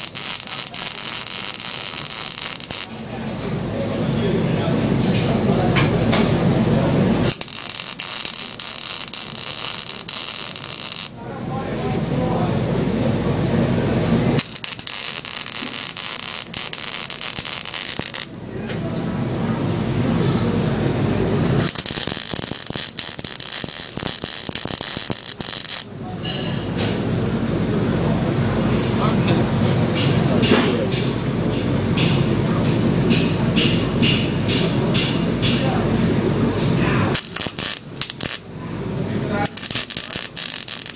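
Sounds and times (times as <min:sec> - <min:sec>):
welding arc hissing and crackling: 0:00.0 - 0:11.2, 0:12.0 - 0:18.4, 0:20.0 - 0:27.2, 0:30.9 - 0:40.9
steady low hum: 0:00.0 - 0:40.9.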